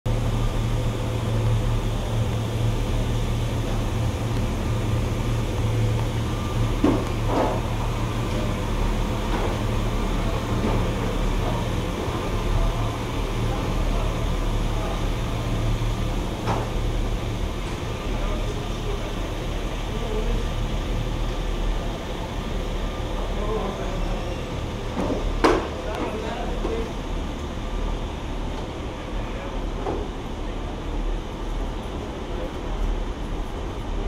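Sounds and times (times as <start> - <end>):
train engine idling: 0.1 - 34.0
faint passenger voices: 0.2 - 34.0.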